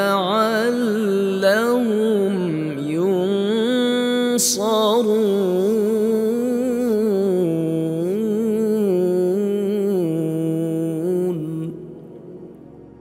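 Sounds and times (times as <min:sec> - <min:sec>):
man reciting melodically: 0:00.0 - 0:12.5.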